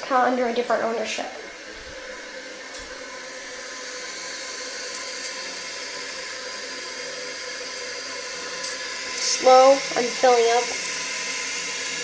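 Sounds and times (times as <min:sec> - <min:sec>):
toilet fill valve hissing: 0:00.0 - 0:12.0.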